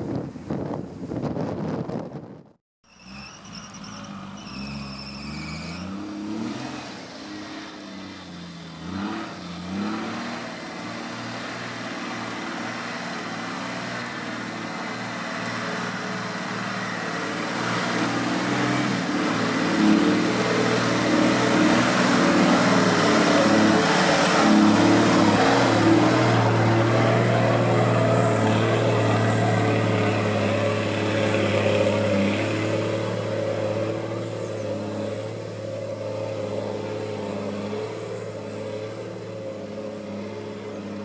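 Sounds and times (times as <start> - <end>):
off-road vehicle engine revving: 2.9 - 41.0.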